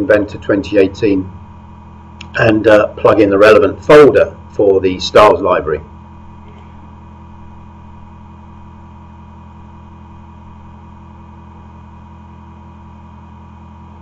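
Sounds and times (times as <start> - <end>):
low electrical hum with hiss: 0.0 - 14.0.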